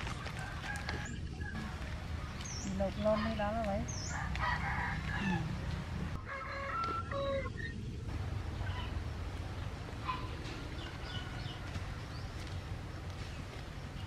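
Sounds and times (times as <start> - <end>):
low background rumble: 0.0 - 6.3, 6.9 - 14.0.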